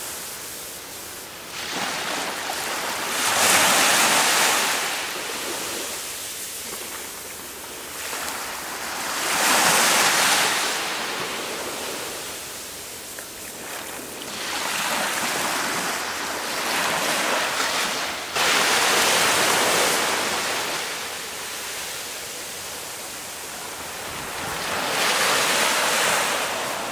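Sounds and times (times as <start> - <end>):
small waves washing on sand: 0.0 - 26.9.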